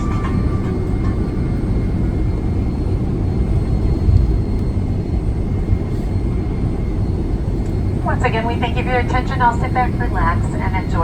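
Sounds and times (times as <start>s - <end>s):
airplane cabin engine rumble: 0.0s - 11.0s
faint steady whine: 0.0s - 11.0s.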